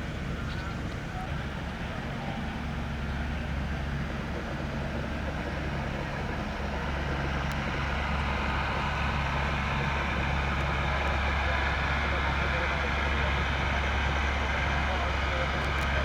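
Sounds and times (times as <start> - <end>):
diesel fire engine idling: 0.0 - 16.0.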